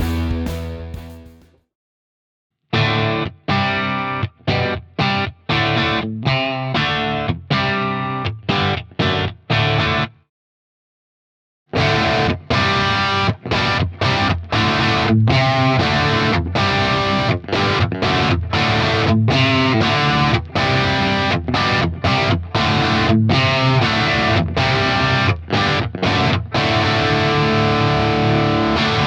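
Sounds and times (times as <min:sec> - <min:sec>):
overdriven electric guitar riffs: 0:00.0 - 0:01.5, 0:02.8 - 0:10.2, 0:11.8 - 0:29.0.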